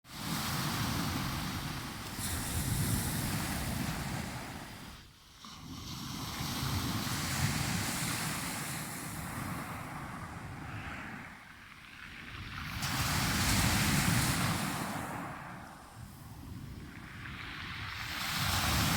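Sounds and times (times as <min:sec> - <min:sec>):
waves breaking: 0:00.1 - 0:18.9
wind rumbling on microphone: 0:00.1 - 0:18.9.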